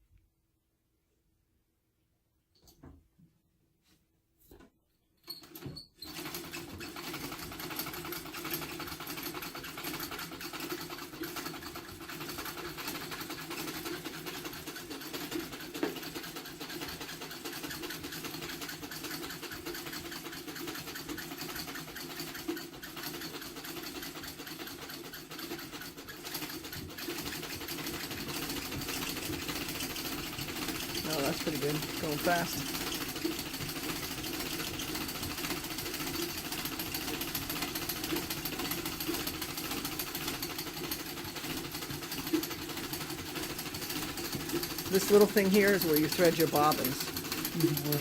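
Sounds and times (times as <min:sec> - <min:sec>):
treadle sewing machine clatter: 0:05.2 - 0:48.0.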